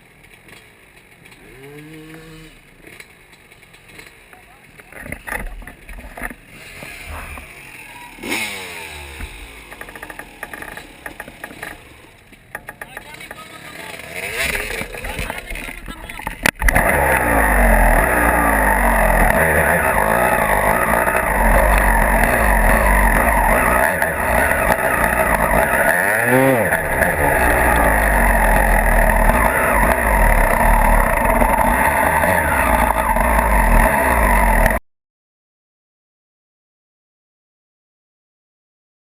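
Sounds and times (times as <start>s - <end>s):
dirt bike engine revving: 1.2s - 3.1s, 3.9s - 34.8s.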